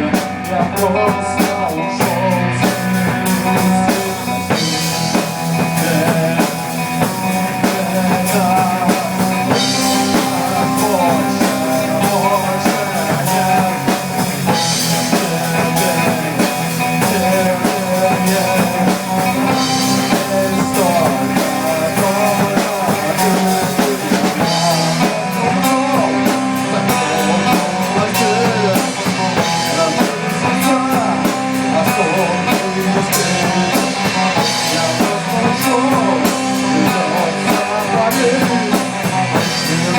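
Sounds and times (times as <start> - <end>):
rock music: 0.0 - 39.9.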